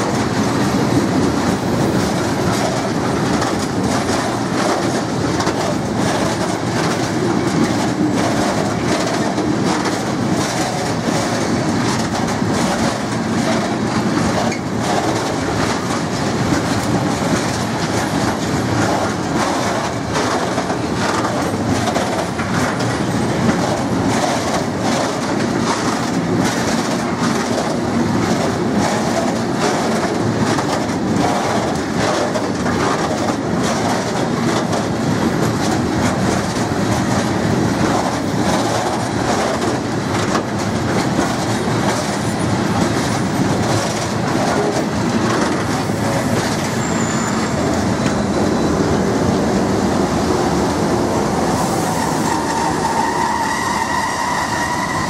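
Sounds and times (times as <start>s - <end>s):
freight train rolling past: 0.0s - 55.0s
wheels clacking over rail joints: 0.0s - 55.0s.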